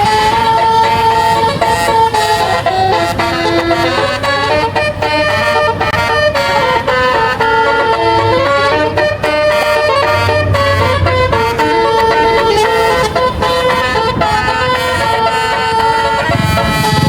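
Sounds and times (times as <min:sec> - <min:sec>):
low engine hum: 0:00.0 - 0:17.0
multi-tone air horn playing a tune: 0:00.0 - 0:17.0.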